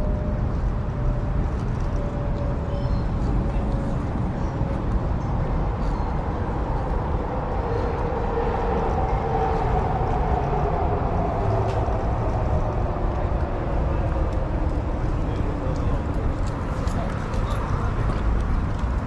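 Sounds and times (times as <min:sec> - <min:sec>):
city street traffic rumble: 0:00.0 - 0:19.0
vehicle engine hum: 0:00.0 - 0:19.0.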